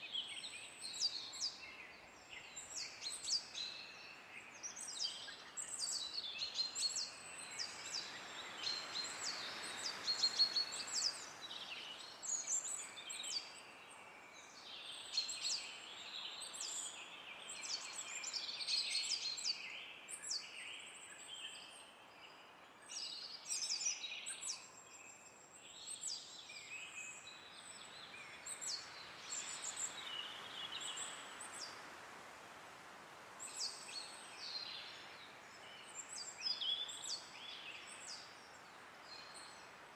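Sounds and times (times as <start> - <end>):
songbirds chirping: 0.0 - 39.9
wind in trees: 0.0 - 39.9.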